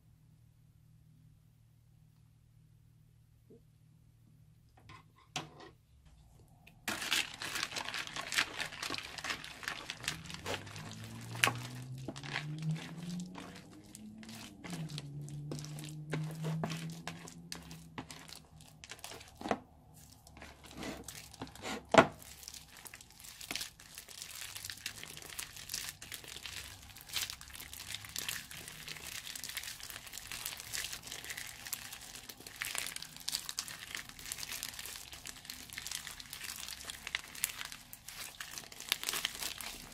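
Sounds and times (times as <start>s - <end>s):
crunchy slime crackling: 6.8s - 39.9s.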